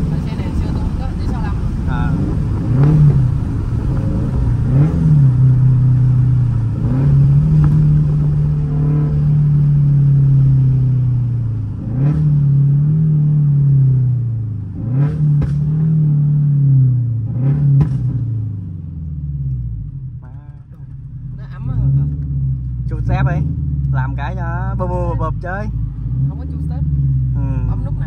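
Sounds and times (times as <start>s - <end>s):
exhaust cracks: 0.0s - 28.0s
performance car engine revving: 0.0s - 28.0s.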